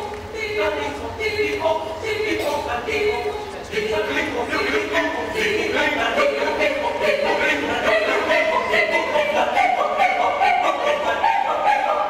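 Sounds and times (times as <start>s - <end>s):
mixed choir singing: 0.0s - 12.0s.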